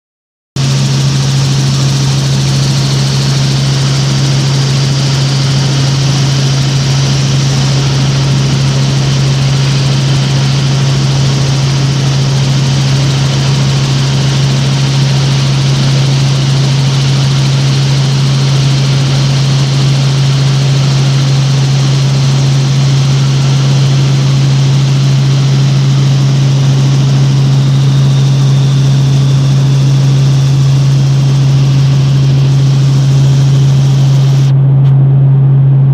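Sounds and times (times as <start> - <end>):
helicopter engine and rotors hum: 0.6 - 35.9.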